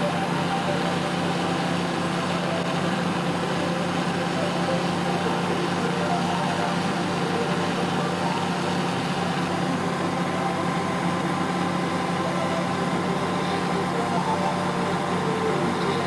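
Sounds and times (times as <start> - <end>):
pulsing mechanical hum: 0.0 - 16.0.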